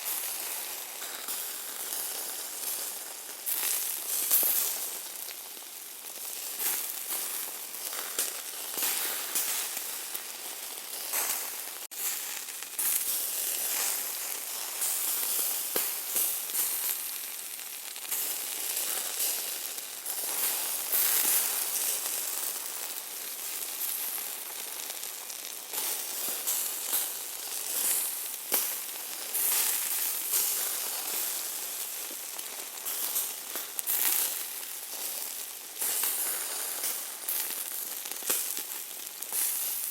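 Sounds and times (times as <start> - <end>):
meat sizzling: 0.0 - 39.9
fat crackling and popping: 0.1 - 39.9.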